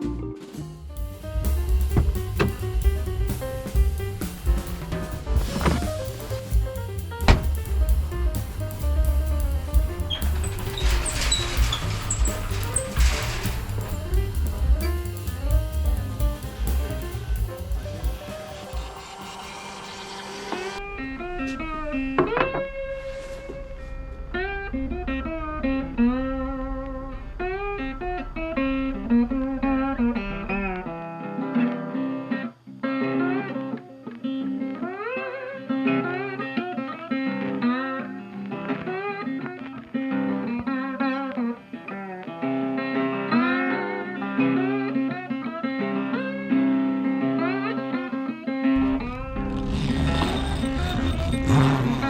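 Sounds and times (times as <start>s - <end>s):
bluesy guitar music with bass: 0.0s - 18.5s, 20.8s - 52.0s.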